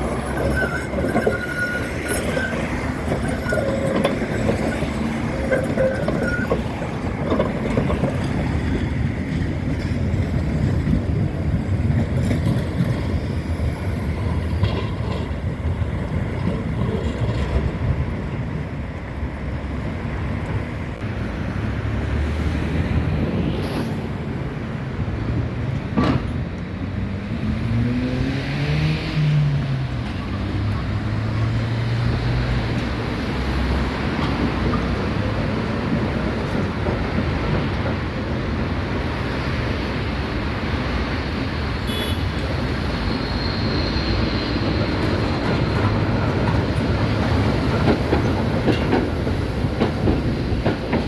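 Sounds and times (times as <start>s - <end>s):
rail vehicle rumbling: 0.0s - 51.0s.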